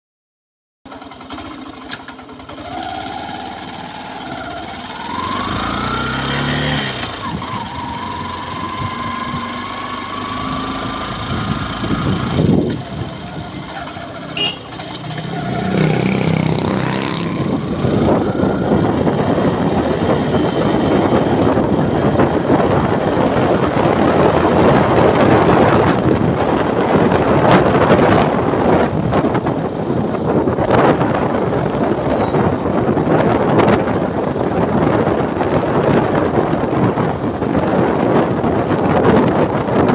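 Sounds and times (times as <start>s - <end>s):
motorcycle engine accelerating: 0.9s - 39.9s
wind buffeting microphone: 4.4s - 39.9s.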